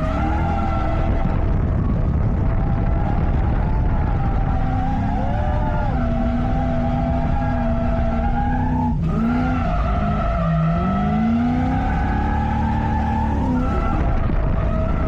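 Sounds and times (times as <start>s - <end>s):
tyres skidding: 0.0s - 1.8s, 2.4s - 15.0s
car engine at high revs: 0.0s - 15.0s.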